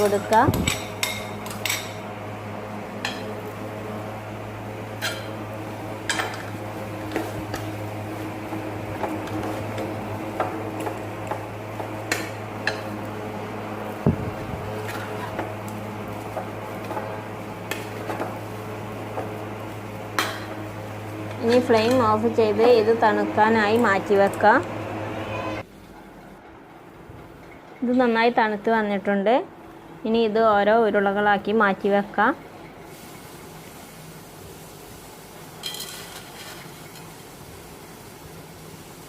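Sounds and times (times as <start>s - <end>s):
steady low hum: 0.0s - 35.5s.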